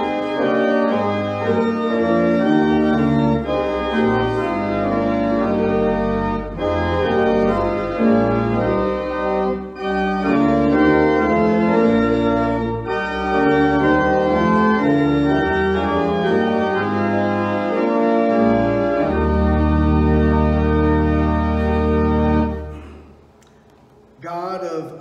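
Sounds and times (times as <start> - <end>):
pipe organ chords: 0.0 - 23.4.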